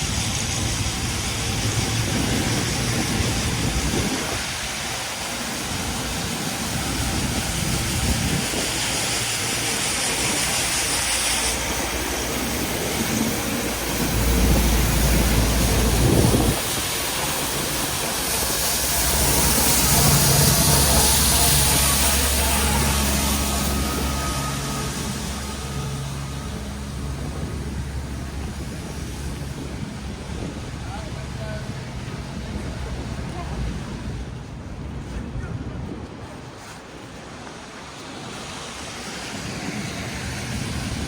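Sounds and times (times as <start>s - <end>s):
tyres hissing on snowy road: 0.0s - 33.8s, 37.1s - 41.0s
low engine rumble: 0.0s - 36.5s.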